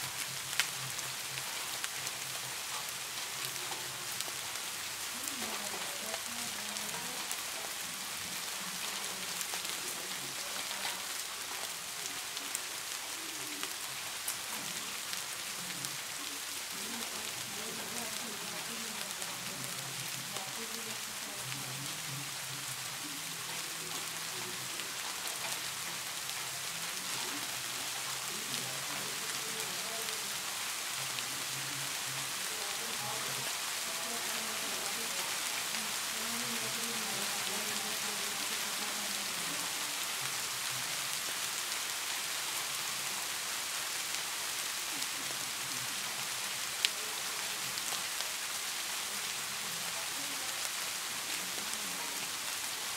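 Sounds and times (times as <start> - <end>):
faint distant voices: 0.2 - 52.9.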